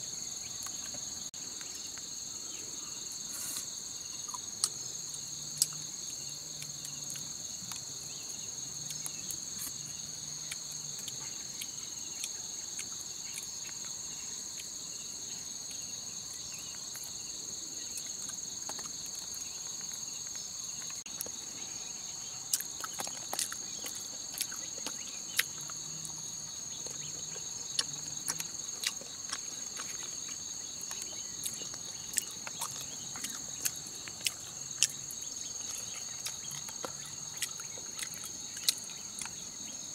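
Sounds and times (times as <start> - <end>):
forest insects whining: 0.0 - 39.9.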